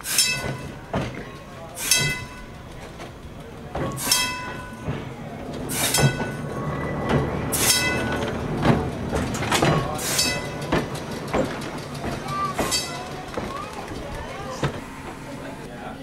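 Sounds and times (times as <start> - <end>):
metallic clanks with ringing: 0.0 - 15.3
streetcar humming: 0.0 - 16.0.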